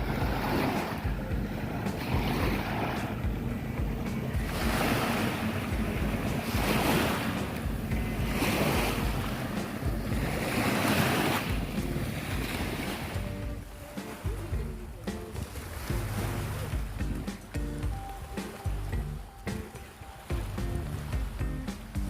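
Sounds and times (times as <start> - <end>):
sea waves washing in: 0.0 - 22.0
wind buffeting microphone: 0.0 - 22.0.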